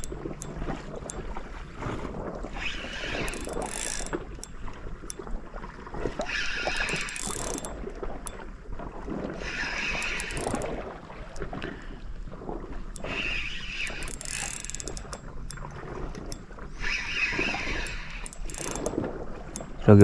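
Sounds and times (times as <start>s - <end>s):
fishing reel whirring and clicking: 0.0s - 1.4s, 2.0s - 11.6s, 12.7s - 20.0s.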